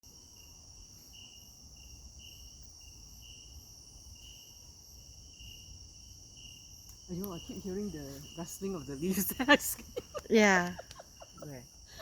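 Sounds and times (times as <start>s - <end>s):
high-pitched insect trill: 0.0s - 12.0s
insect chirps: 0.0s - 12.0s.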